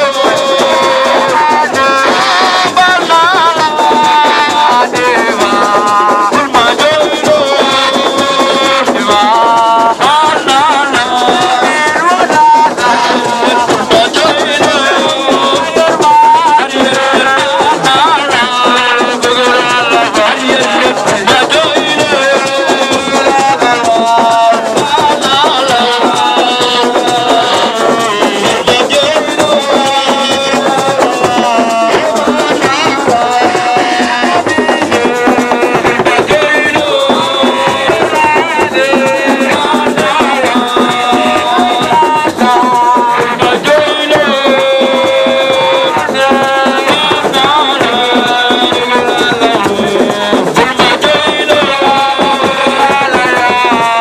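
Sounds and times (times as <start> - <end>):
shaken rattles and percussion: 0.0 - 54.0
voices singing: 0.0 - 54.0.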